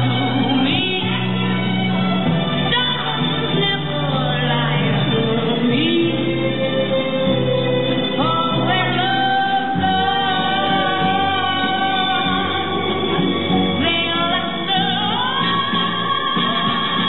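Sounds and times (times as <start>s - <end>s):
background music: 0.0s - 17.0s
person singing long notes: 2.8s - 17.0s.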